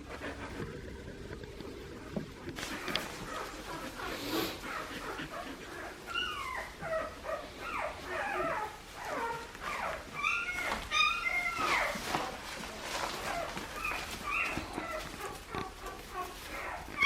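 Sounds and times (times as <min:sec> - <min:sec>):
puppies whining and yipping: 0:02.6 - 0:17.0.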